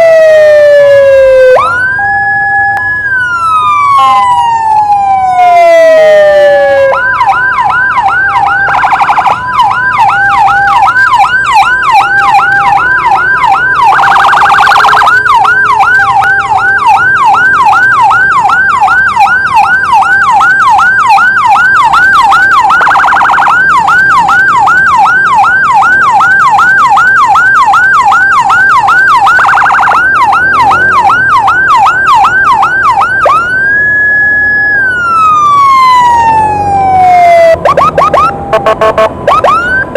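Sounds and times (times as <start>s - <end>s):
electronic emergency siren: 0.0s - 39.9s.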